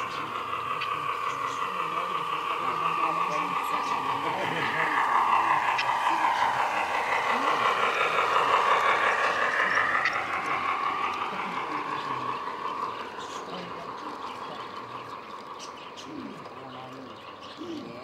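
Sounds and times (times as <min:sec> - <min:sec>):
model train wagons rattling: 0:00.0 - 0:18.0.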